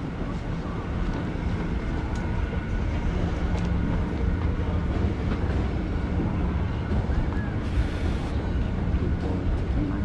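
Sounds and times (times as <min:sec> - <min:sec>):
terminal hall background noise: 0:00.0 - 0:10.0.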